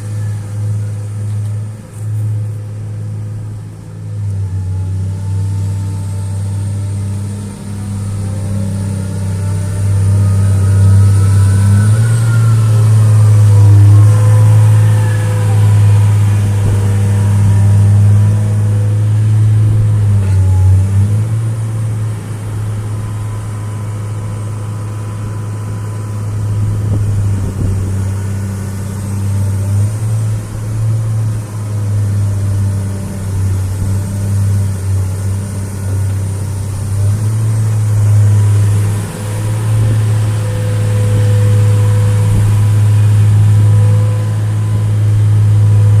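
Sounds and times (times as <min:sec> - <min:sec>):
diesel engine humming: 0:00.0 - 0:46.0
high whining tones: 0:00.0 - 0:46.0.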